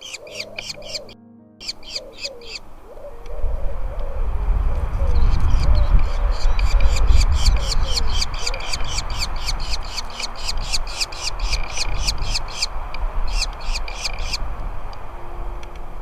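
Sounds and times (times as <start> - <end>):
nestling birds chirping: 0.0 - 4.1, 4.9 - 15.0
steady low rumble: 0.7 - 13.7.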